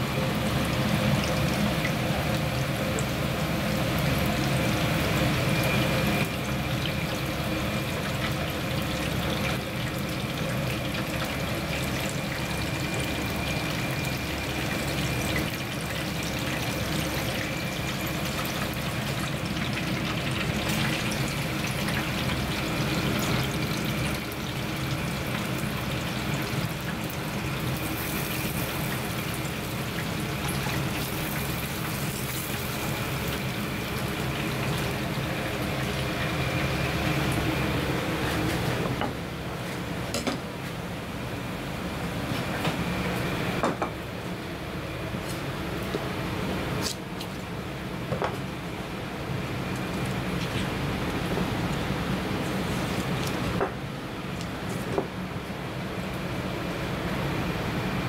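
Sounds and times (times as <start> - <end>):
fish deep-frying in oil: 0.0 - 39.6, 45.2 - 58.0.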